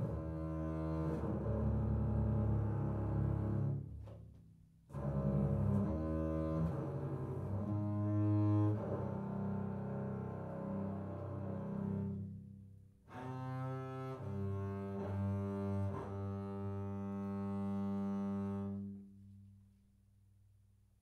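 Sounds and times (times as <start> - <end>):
bowed double bass: 0.0 - 19.7.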